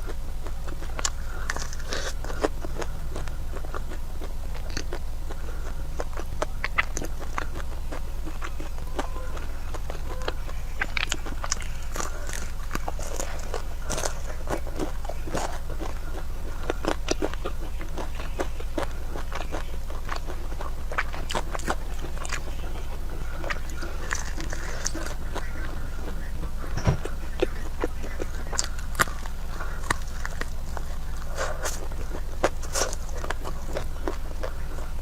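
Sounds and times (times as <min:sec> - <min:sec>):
low hum: 0:00.0 - 0:35.0
person chewing food: 0:00.0 - 0:35.0.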